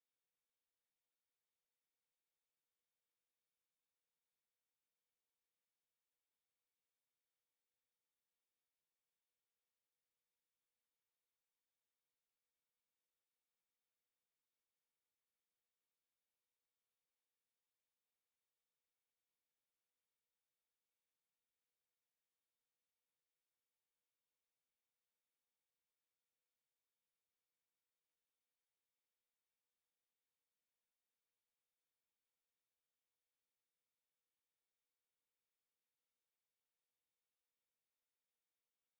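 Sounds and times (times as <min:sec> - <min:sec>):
high sine test tone: 0:00.0 - 0:38.9.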